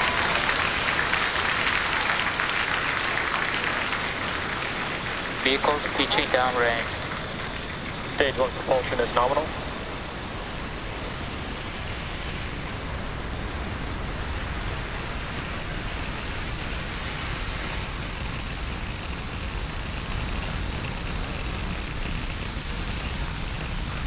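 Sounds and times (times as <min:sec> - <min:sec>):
rocket engines firing: 0:00.0 - 0:24.0.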